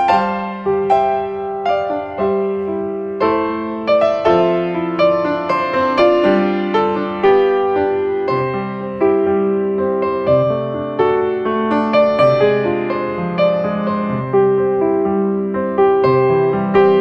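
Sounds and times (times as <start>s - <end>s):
piano-toned keyboard music: 0.0s - 17.0s.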